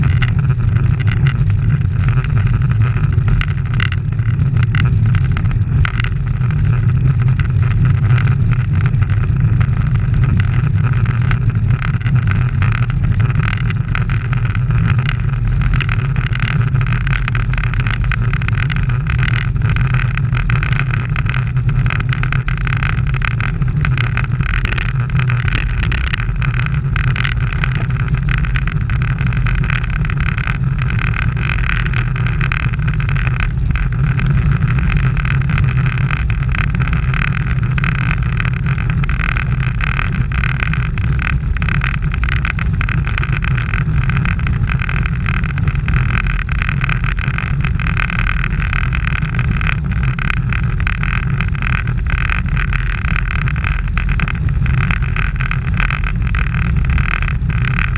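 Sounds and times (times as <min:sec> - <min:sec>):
bike tyres on asphalt: 0:00.0 - 0:57.9
wind rumble on microphone: 0:00.0 - 0:57.9.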